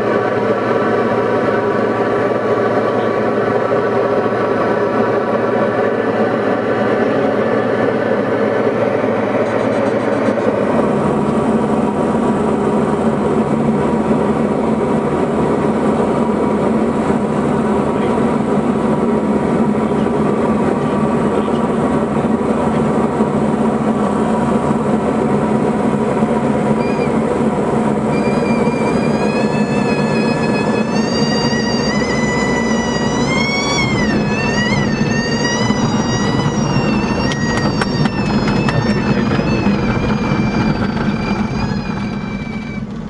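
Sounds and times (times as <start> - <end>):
aircraft engine and propeller: 0.0 - 43.0.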